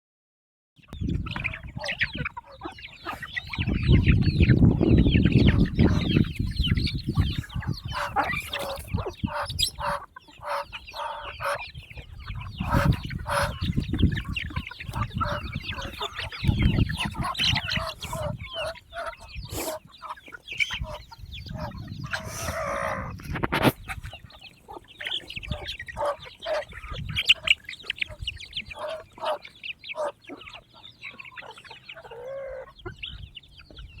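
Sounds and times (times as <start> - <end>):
poultry clucking and chirping: 0.8 - 34.0.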